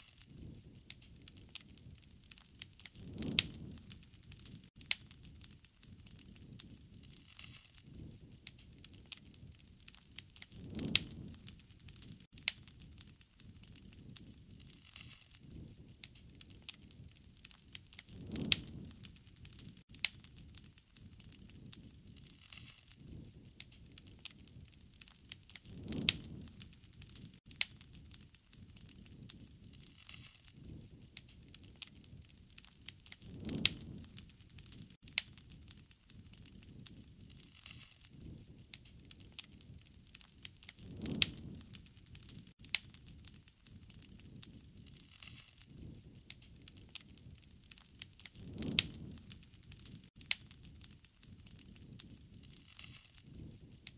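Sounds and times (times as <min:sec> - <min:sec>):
rush of flames: 0:00.0 - 0:53.9
wood crackling and popping: 0:00.0 - 0:53.9.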